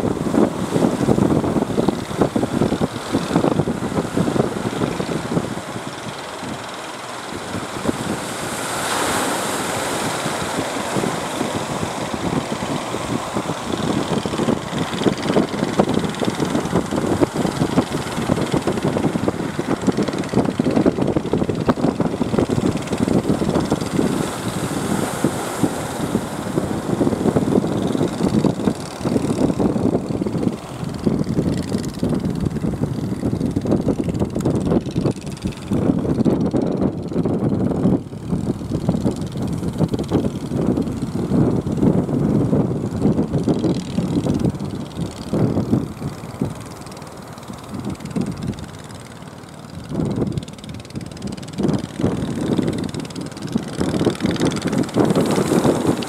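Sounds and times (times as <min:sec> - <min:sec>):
waves washing against rocks: 0:00.0 - 0:56.0
wind on microphone: 0:00.0 - 0:56.0.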